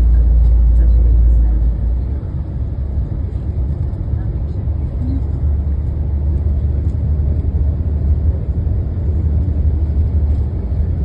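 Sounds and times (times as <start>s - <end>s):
road vehicle rumbling: 0.0s - 11.0s.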